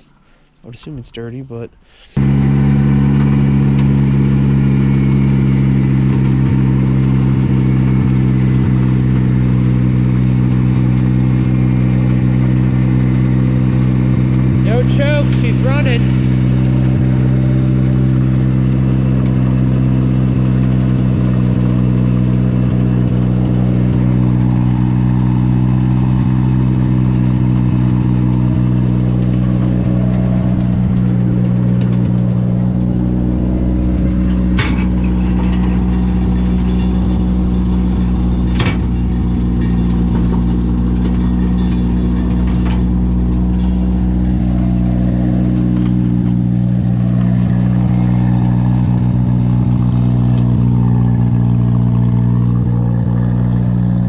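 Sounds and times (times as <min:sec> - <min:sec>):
wood chipper engine running: 0:00.0 - 0:00.6, 0:02.2 - 0:54.0.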